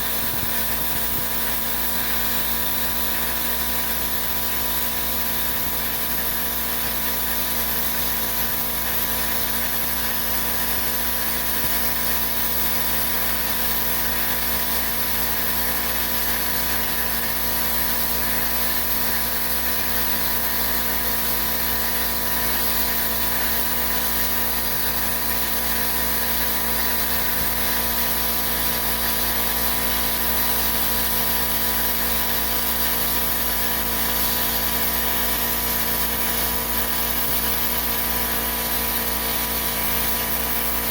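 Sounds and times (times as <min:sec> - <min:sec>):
machine running with hiss: 0:00.0 - 0:40.9.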